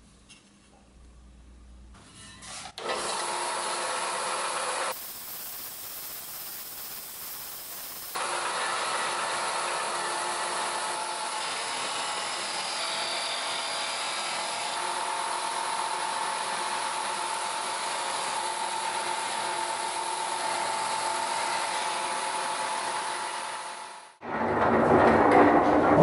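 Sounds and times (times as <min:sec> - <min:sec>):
sander grinding steel: 0:02.9 - 0:24.2.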